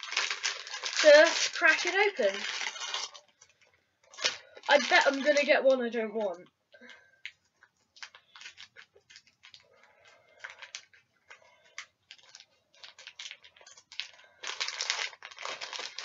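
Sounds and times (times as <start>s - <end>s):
toy packaging crinkling: 0.0s - 16.0s.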